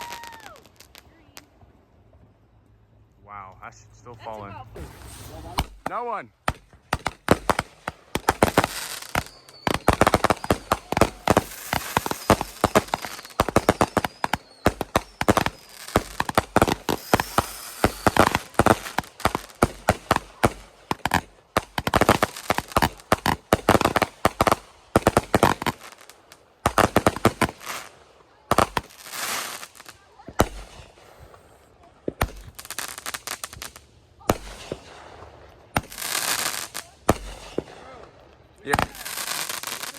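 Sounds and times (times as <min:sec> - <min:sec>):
fireworks popping and banging: 0:00.0 - 0:02.4, 0:03.5 - 0:39.9.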